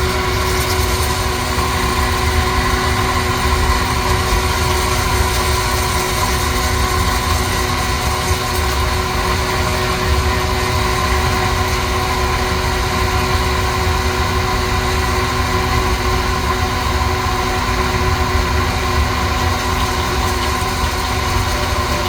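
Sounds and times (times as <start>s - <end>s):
coffee roaster humming: 0.0s - 22.0s.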